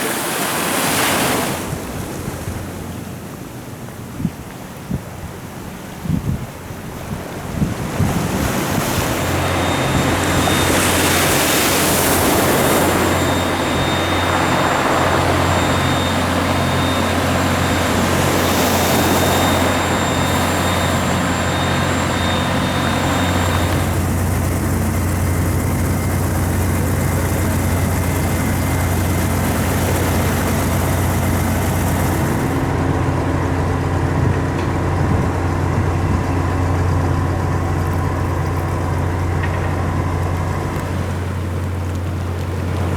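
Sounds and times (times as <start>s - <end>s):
low engine drone: 7.0s - 42.9s.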